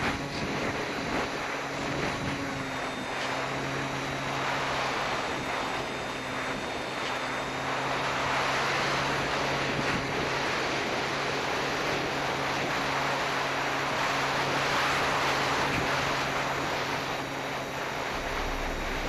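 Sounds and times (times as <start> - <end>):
heavy wind rush: 0.0 - 19.0
motor and propeller hum: 0.0 - 19.0.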